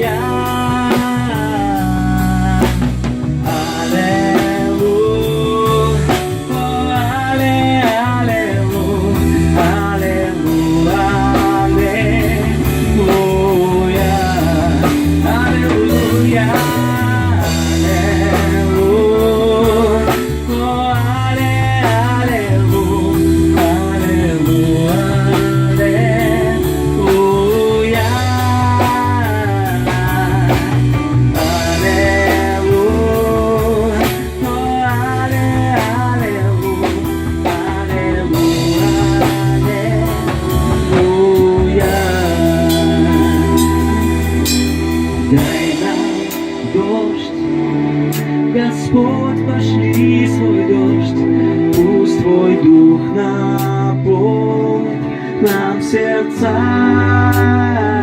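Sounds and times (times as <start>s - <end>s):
bending lead guitar melody: 0.0s - 58.0s
rock band playing: 0.0s - 58.0s.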